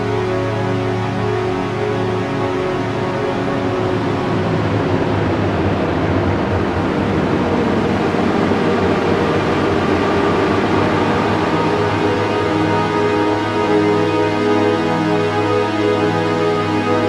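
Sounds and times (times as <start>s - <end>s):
dark music of low chords: 0.0s - 17.0s
rushing noise wash: 0.0s - 17.0s.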